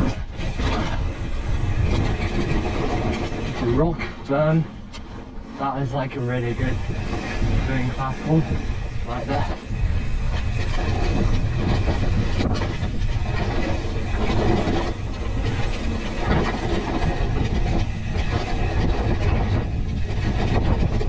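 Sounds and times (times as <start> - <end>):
bike chain and frame rattle: 0.0 - 21.0
low rumble: 0.0 - 21.0.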